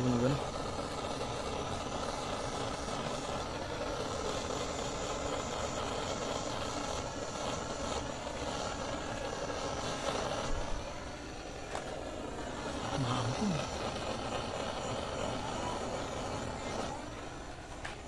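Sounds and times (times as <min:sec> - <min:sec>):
gas torch burning: 0:00.0 - 0:18.0.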